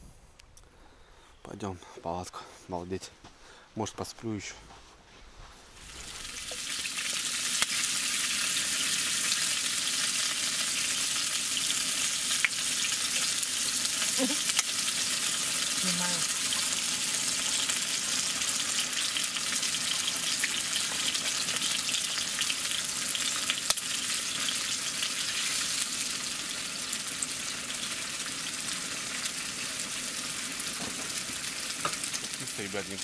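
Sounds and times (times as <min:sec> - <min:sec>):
food sizzling in a pan: 0:05.7 - 0:33.0.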